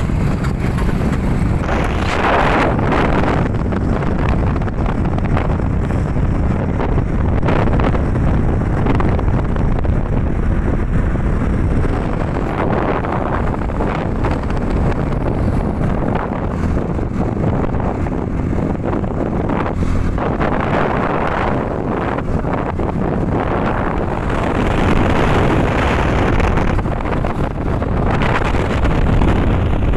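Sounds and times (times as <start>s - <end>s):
motorcycle engine and road noise: 0.0s - 29.9s
wind buffeting microphone: 0.0s - 29.9s.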